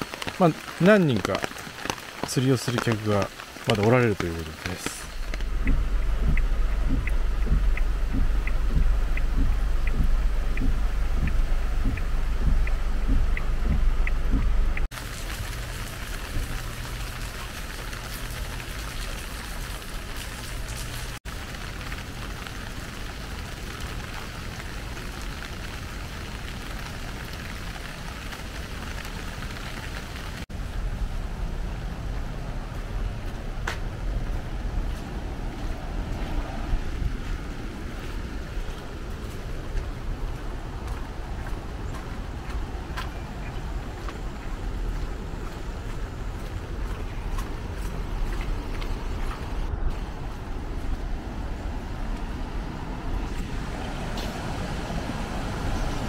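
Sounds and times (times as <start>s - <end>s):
steady outdoor hiss: 0.0s - 56.0s
wind rumbling on microphone: 2.8s - 56.0s.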